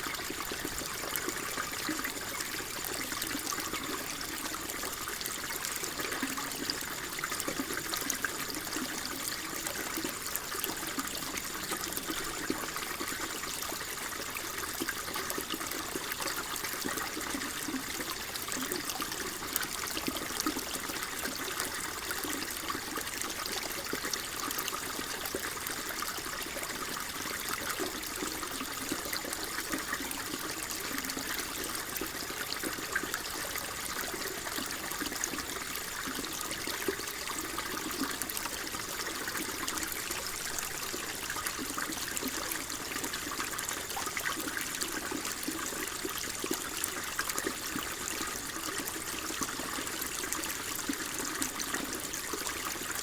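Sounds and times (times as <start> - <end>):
water flowing and trickling: 0.0 - 53.0.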